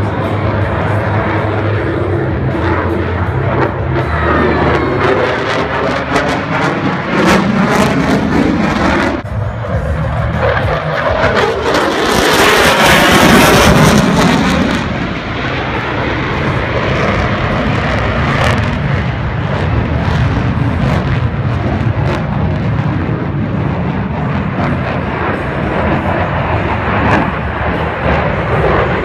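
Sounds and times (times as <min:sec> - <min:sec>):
jet engines passing overhead: 0:00.0 - 0:29.0.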